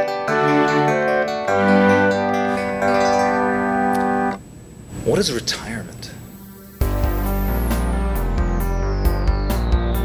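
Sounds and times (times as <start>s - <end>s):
instrumental music with held chords: 0.0s - 4.4s, 6.3s - 10.0s.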